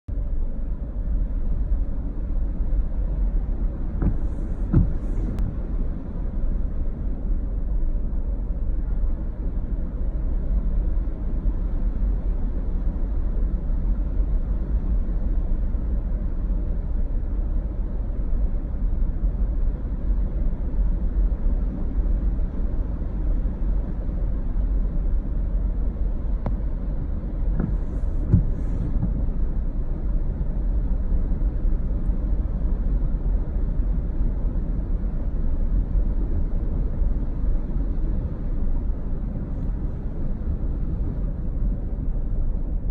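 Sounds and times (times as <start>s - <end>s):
city traffic rumble: 0.0s - 42.9s.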